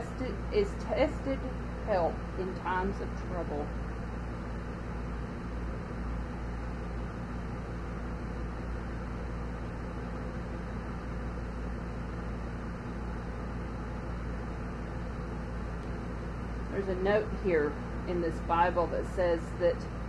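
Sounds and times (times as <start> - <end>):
air conditioner fan rushing: 0.0 - 20.0
low hum: 0.0 - 20.0.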